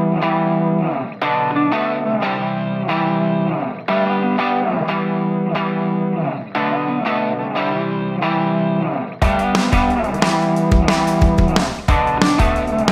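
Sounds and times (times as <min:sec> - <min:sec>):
distorted electric guitar chords: 0:00.0 - 0:12.9.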